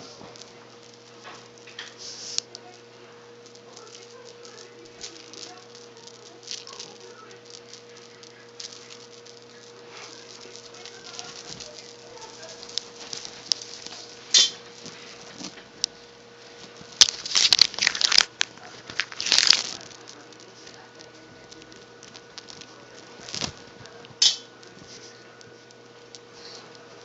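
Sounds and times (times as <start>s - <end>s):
crinkly rustling of toy: 0.0s - 27.0s.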